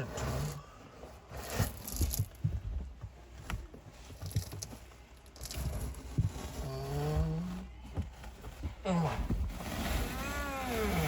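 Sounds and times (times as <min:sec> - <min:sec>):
carpet pulled with thumps: 0:00.0 - 0:11.0
carpet rustling: 0:00.0 - 0:11.0.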